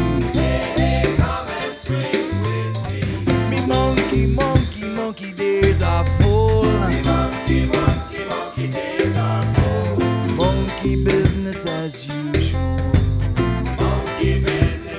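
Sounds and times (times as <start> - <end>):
upbeat latin backing music: 0.0 - 14.9.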